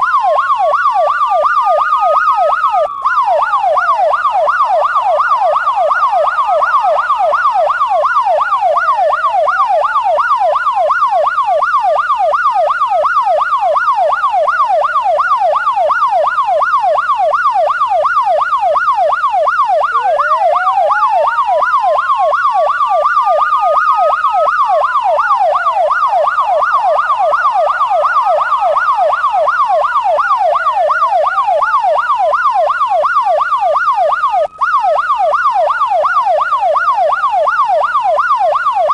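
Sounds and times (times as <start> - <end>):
siren fast yelp: 0.0 - 38.9
siren slow wail: 0.0 - 38.9.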